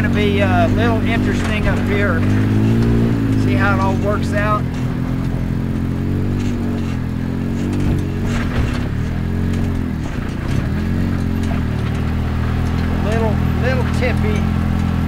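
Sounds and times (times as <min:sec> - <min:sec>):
off-road vehicle engine revving: 0:00.0 - 0:15.0
short knocks: 0:00.0 - 0:15.0.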